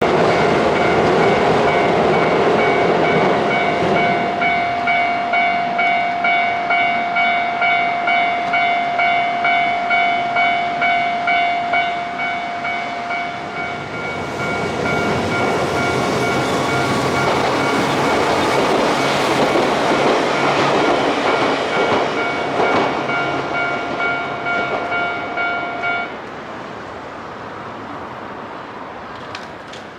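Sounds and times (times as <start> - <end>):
train clattering over rails: 0.0 - 29.9.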